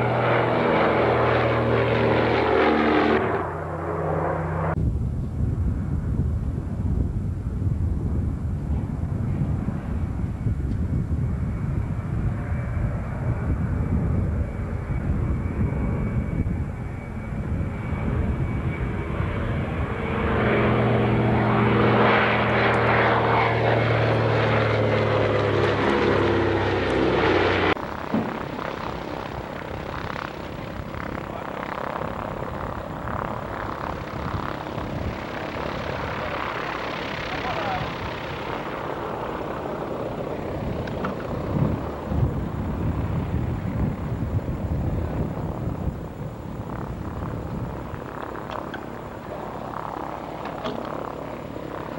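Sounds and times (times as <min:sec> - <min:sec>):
propeller aircraft engine drone: 0:00.0 - 0:51.9.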